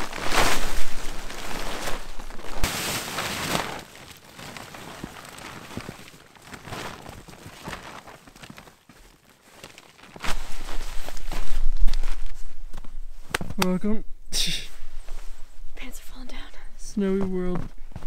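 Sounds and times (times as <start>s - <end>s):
tent fabric rustling and crunching: 0.0s - 13.8s, 14.8s - 15.8s.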